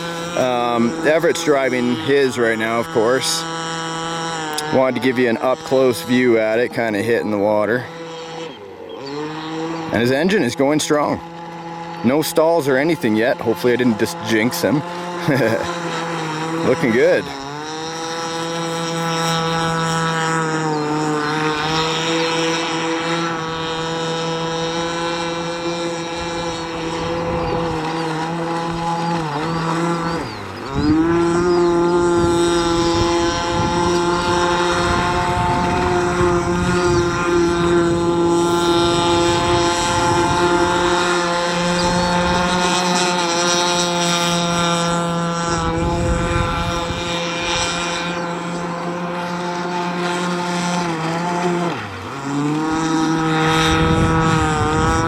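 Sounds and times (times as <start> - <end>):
model boat two-stroke engine: 0.0 - 55.0.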